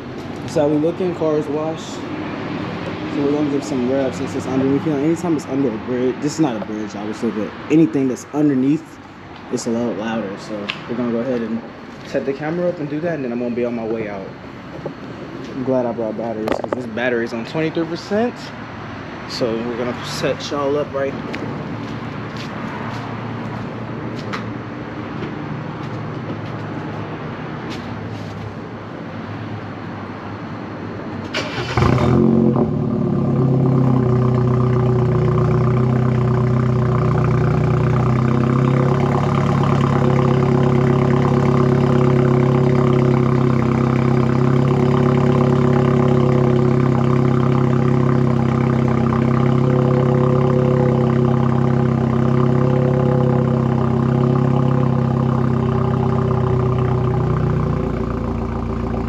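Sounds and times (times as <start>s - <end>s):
car engine starting and idling: 0.0s - 26.9s, 31.0s - 59.0s.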